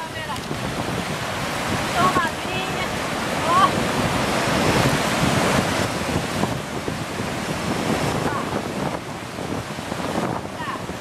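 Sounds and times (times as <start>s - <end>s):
river rapids rushing: 0.0s - 11.0s
wind buffeting microphone: 0.0s - 11.0s.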